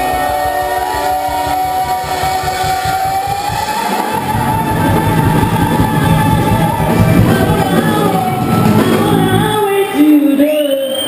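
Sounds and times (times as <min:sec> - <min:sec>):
drums: 0:00.0 - 0:10.0
electric guitars: 0:00.0 - 0:10.1
person singing: 0:00.0 - 0:10.6.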